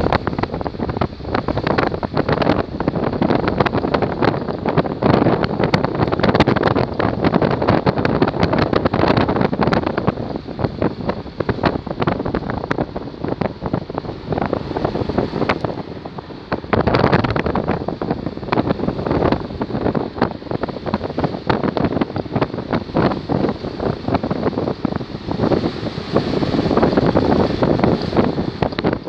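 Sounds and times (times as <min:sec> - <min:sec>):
vehicle ride rumble: 0:00.0 - 0:29.0
wind buffeting microphone: 0:00.0 - 0:29.0.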